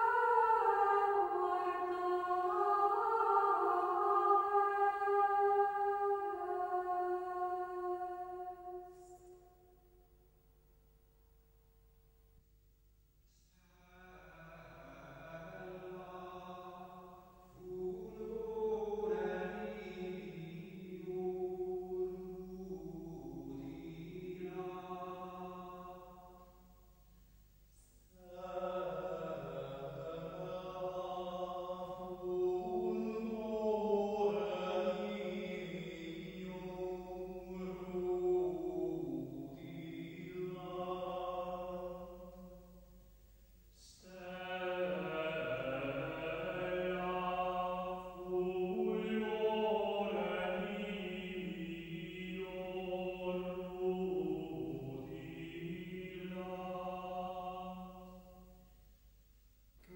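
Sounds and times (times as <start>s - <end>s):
sacred vocal chant: 0.0s - 9.6s, 13.3s - 26.6s, 27.7s - 42.8s, 43.7s - 58.6s.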